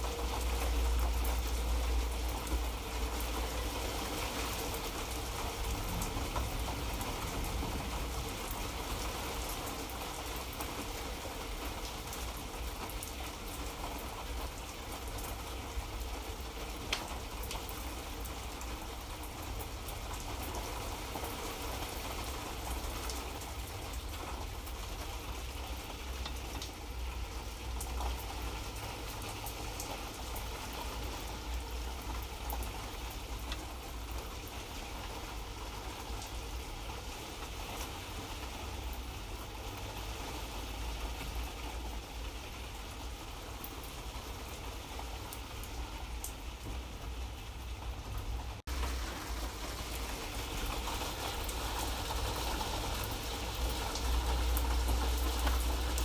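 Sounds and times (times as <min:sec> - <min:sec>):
light rain falling: 0:00.0 - 0:56.0
raindrop ticks: 0:00.1 - 0:15.4, 0:16.0 - 0:20.8, 0:21.4 - 0:40.1, 0:48.1 - 0:56.0.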